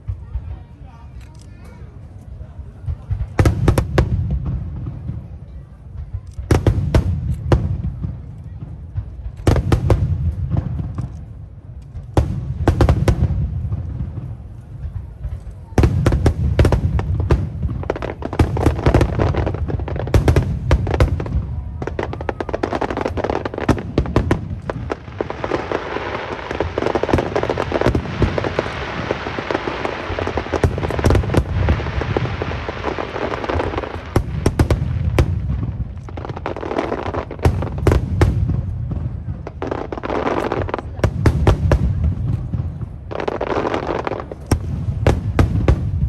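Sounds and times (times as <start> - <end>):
fireworks bursting: 0.0 - 46.0
crackling firework shells: 5.6 - 46.0.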